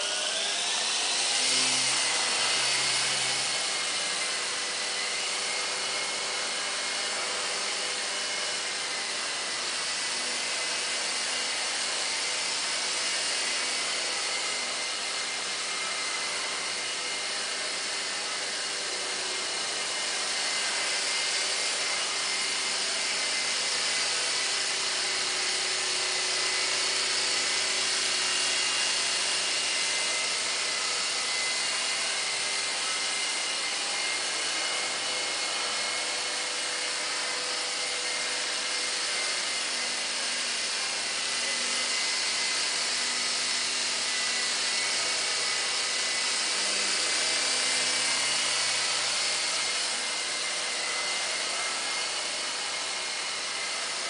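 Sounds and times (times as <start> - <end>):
toy helicopter rotors whirring: 0.0 - 54.0.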